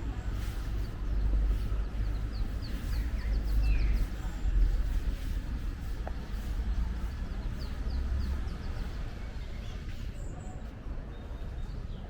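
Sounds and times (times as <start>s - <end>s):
low rumble of street ambience: 0.0s - 12.0s
small birds chirping: 0.0s - 12.0s.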